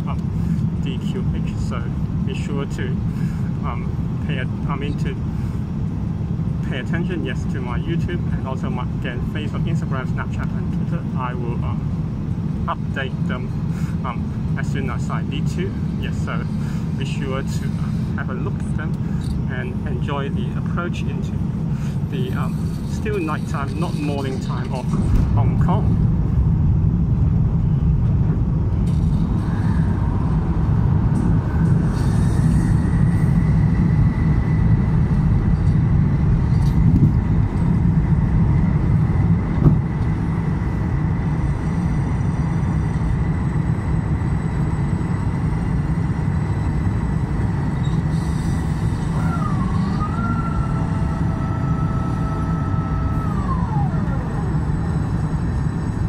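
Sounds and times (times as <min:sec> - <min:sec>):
engine and airflow rumble: 0:00.0 - 0:56.0
whine: 0:00.0 - 0:56.0.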